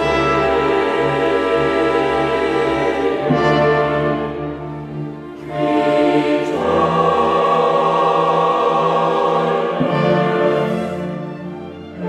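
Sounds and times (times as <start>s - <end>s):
slow orchestral music with choir: 0.0s - 12.0s.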